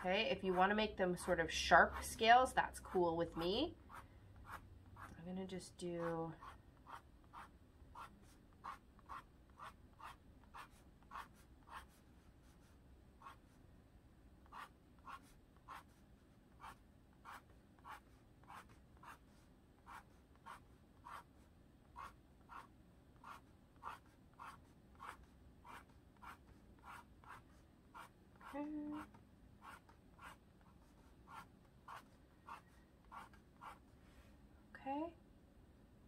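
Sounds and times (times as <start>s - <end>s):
pencil scratching on canvas: 0.0s - 5.2s, 6.0s - 13.6s, 14.4s - 33.9s.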